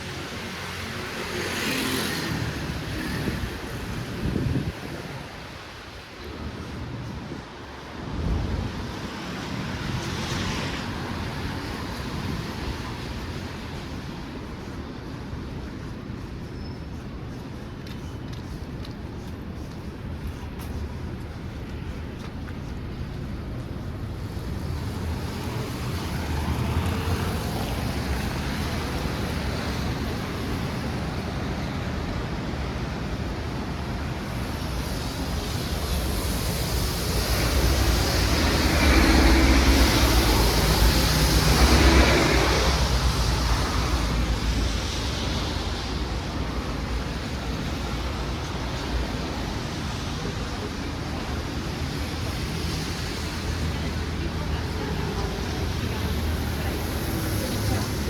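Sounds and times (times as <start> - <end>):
city traffic hiss and hum: 0.0 - 58.0.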